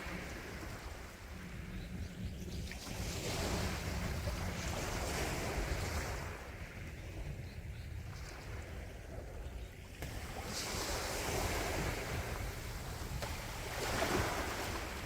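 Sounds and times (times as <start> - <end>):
calm sea waves washing in: 0.0 - 7.4, 8.0 - 15.0.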